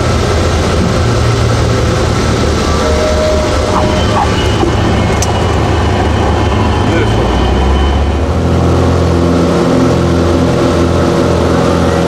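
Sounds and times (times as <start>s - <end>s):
light aircraft engine and propeller: 0.0s - 12.0s.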